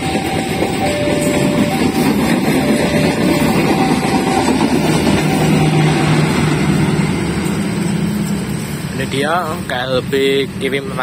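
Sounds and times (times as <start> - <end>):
diesel engine hum: 0.0 - 11.0
train wheels rumbling on rails: 0.0 - 11.0.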